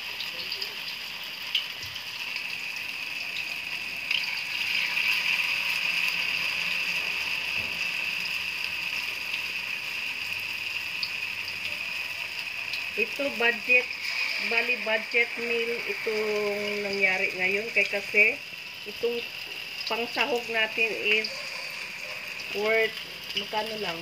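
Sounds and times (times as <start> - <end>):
tofu sizzling in hot oil: 0.0 - 24.0.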